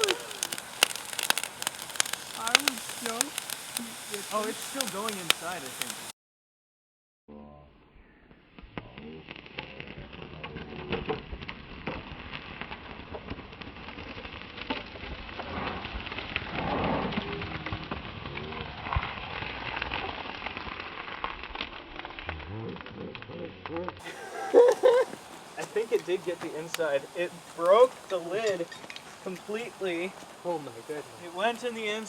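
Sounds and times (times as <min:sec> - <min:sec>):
ceramic crackling and popping: 0:00.0 - 0:06.1, 0:08.9 - 0:32.0.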